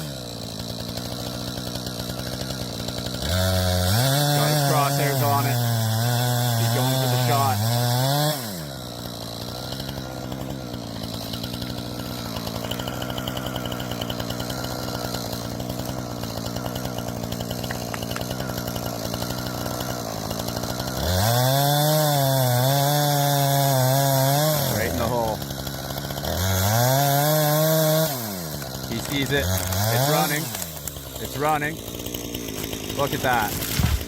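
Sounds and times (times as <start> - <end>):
chainsaw engine revving: 0.0 - 34.0.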